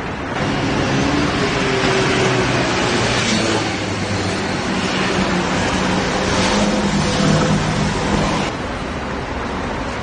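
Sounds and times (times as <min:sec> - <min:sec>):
outdoor street noise: 0:00.0 - 0:10.0.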